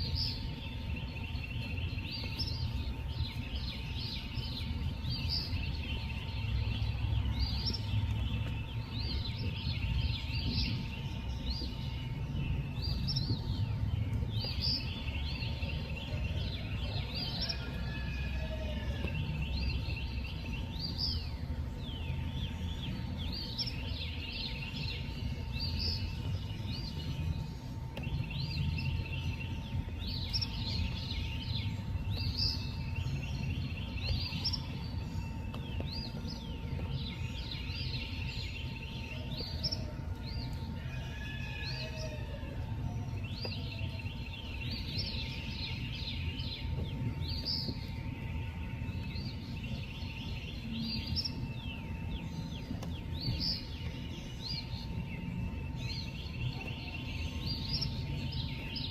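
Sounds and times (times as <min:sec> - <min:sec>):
steady low rumble: 0:00.0 - 0:41.0, 0:41.6 - 0:58.9
faint steady hum: 0:00.0 - 0:58.9.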